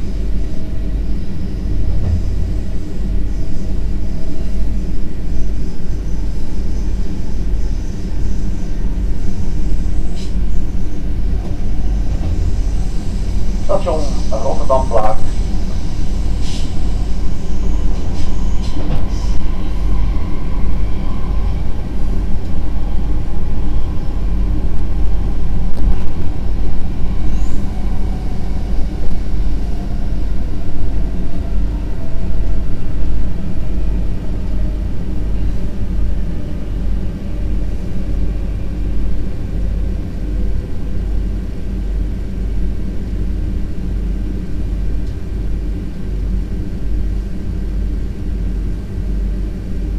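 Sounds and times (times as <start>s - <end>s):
faint train motor whine: 0.0s - 49.9s
train wheels rumbling: 0.0s - 49.9s.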